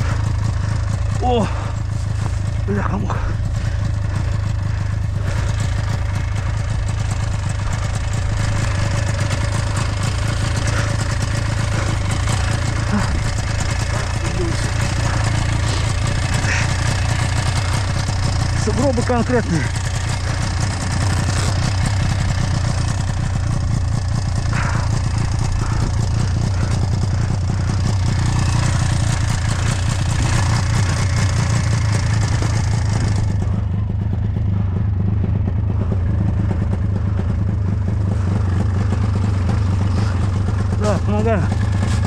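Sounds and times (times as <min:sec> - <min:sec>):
snowmobile engine under load: 0:00.0 - 0:42.0.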